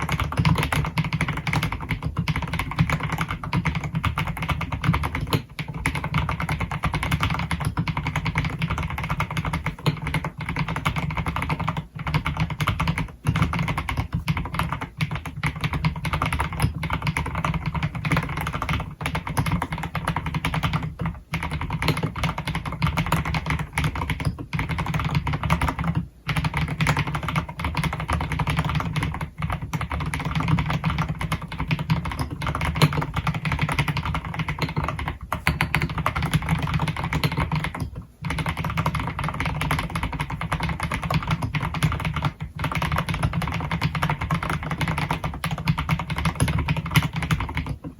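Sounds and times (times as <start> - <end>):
fast mechanical keyboard typing: 0.0 - 47.9.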